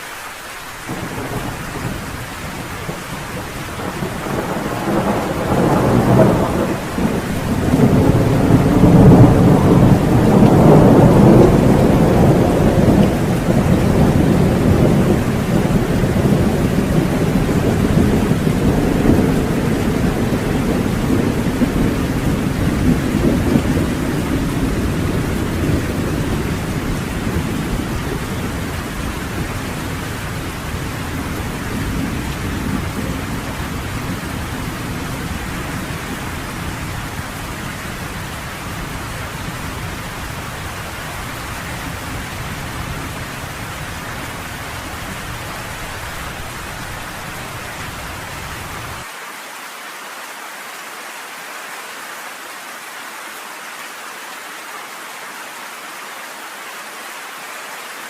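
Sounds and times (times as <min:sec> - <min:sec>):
heavy rain: 0:00.0 - 0:58.0
rolling thunder: 0:00.9 - 0:49.0.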